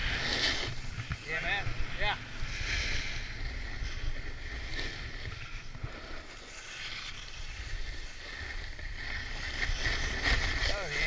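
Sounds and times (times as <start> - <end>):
snowboard scraping on snow: 0.0 - 11.0.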